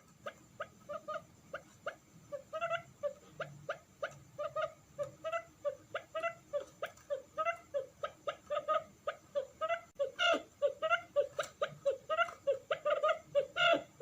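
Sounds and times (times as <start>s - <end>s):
quail calling: 0.0s - 14.0s.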